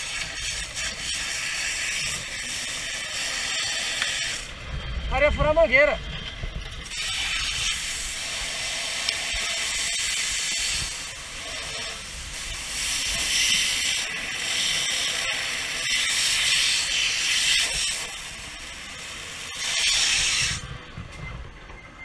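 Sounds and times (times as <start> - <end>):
water stream hissing with steam: 0.0 - 4.5, 6.8 - 20.7.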